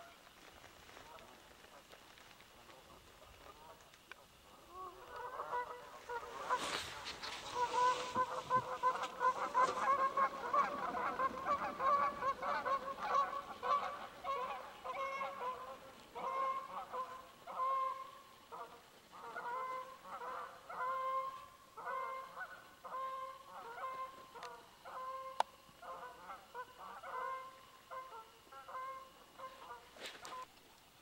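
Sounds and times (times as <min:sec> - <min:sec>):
geese honking: 0:02.6 - 0:30.5.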